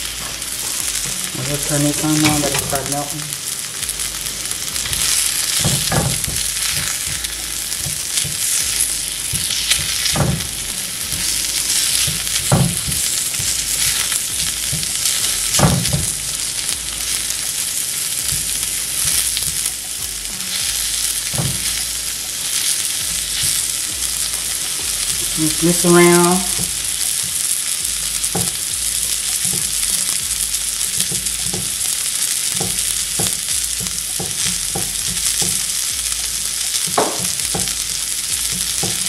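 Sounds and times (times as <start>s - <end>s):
sausage and peppers sizzling: 0.0s - 39.0s
spatula knocking in pan: 3.8s - 36.1s, 36.7s - 39.0s.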